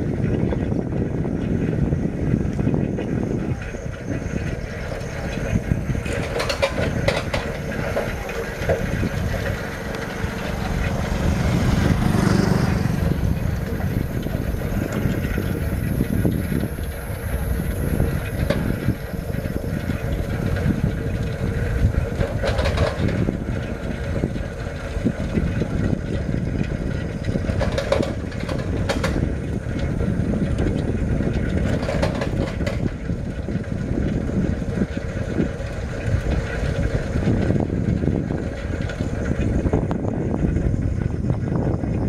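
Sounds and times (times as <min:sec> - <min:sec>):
wind and road noise: 0:00.0 - 0:42.0
knocks and rattles: 0:02.4 - 0:41.5.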